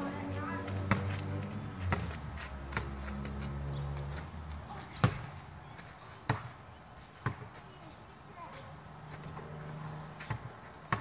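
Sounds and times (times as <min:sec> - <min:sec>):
basketball bouncing on gravel: 0:00.0 - 0:11.0.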